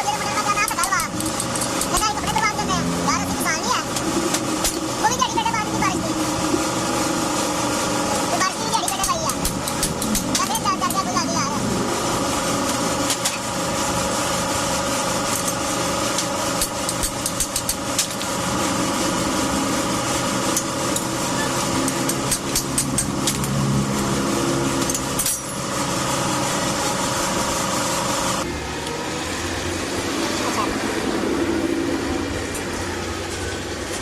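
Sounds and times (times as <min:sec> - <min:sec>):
small machine running: 0:00.0 - 0:34.0.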